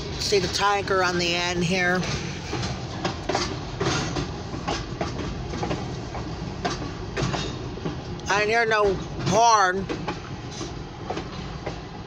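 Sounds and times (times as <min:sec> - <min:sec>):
train rumbling: 0:00.0 - 0:12.0
train wheels clicking over rail joints: 0:01.9 - 0:12.0.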